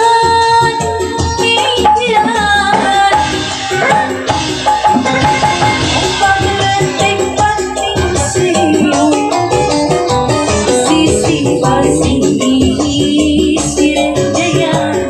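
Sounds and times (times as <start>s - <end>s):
keyboard: 0.0s - 15.0s
steady percussion beat: 0.8s - 15.0s.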